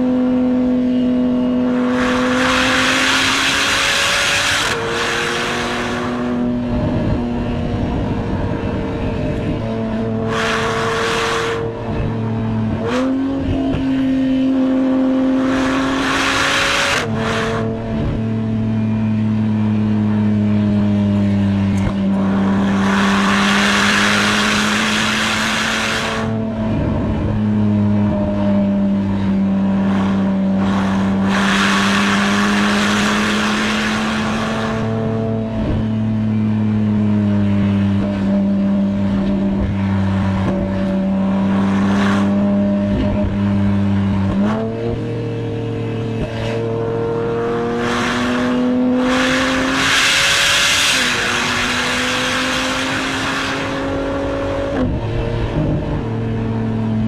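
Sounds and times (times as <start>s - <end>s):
car engine heard from cabin: 0.0s - 57.0s.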